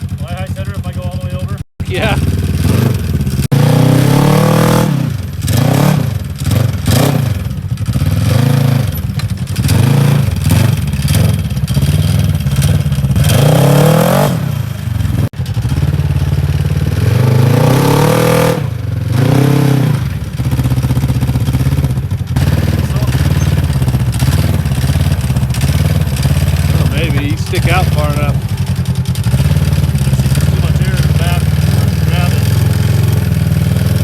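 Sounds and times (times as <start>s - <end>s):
engine revving: 0.0s - 34.0s
clatter: 4.6s - 34.0s.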